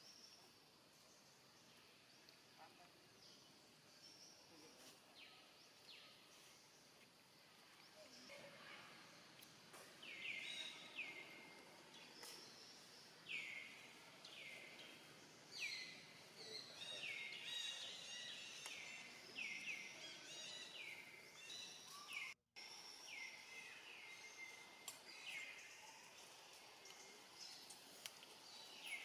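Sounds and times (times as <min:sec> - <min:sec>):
faint outdoor background noise: 0:00.0 - 0:29.0.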